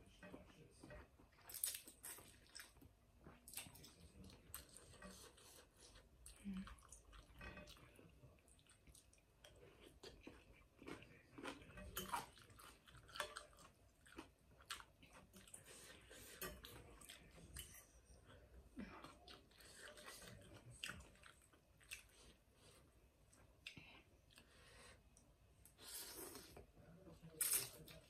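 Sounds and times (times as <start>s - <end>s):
person chewing noodles: 1.3s - 7.4s, 8.0s - 17.5s, 18.3s - 26.6s.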